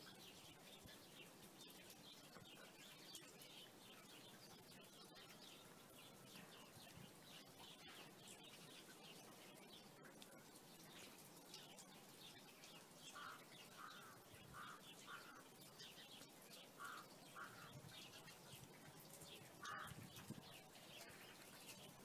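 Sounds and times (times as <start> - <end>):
birds calling: 0.7 - 22.0.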